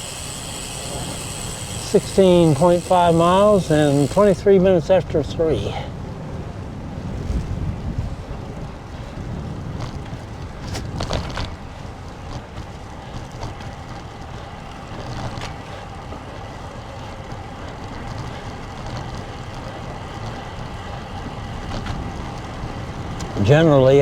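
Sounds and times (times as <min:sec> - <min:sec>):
tyre and road noise: 0:00.0 - 0:24.0
wind rushing over microphone: 0:00.2 - 0:24.0.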